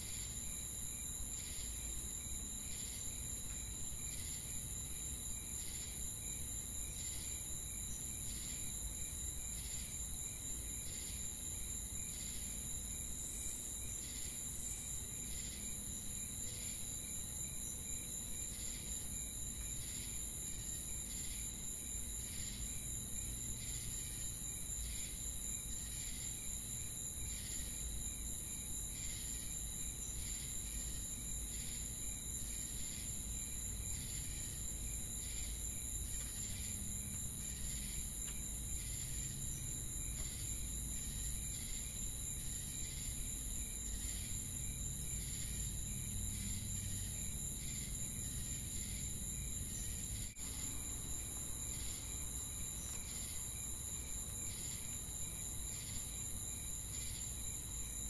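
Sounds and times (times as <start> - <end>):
insects high-pitched trill: 0.0 - 58.0
pulsing cricket chirp: 0.0 - 58.0.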